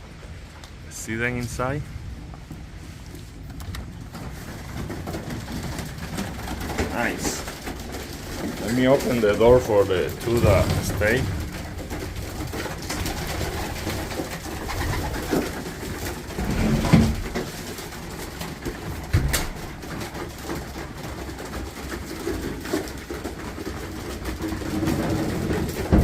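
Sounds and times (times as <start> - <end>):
pigeons cooing: 4.5 - 26.0.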